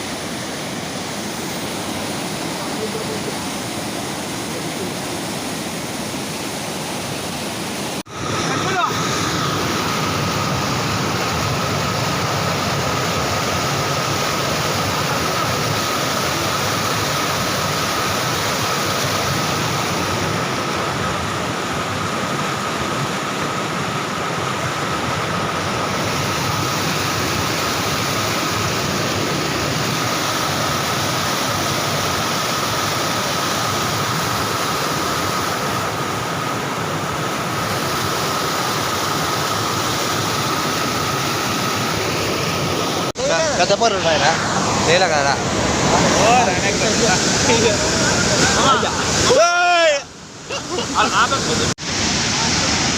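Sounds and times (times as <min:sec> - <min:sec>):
floodwater rushing: 0:00.0 - 0:52.9.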